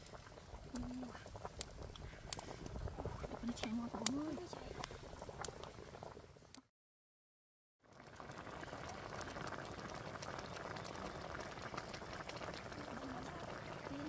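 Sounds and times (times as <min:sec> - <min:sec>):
sauce boiling and bubbling: 0:00.0 - 0:06.7, 0:07.8 - 0:14.0.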